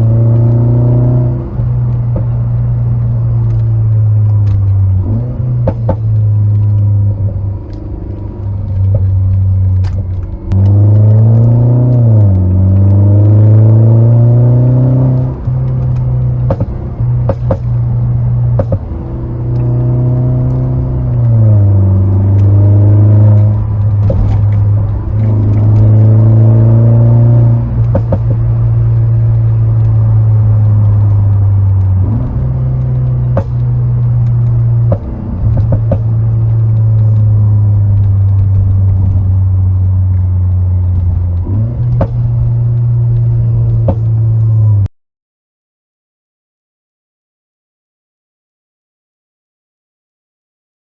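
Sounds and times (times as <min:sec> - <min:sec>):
exhaust pops and crackle: 0:00.0 - 0:44.9.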